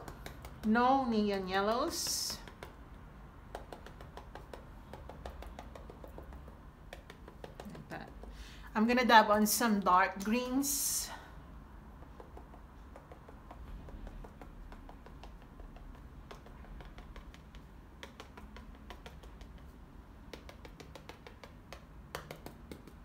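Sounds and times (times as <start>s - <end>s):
sponge dabbing paint on canvas: 0.0s - 8.5s, 11.9s - 23.0s.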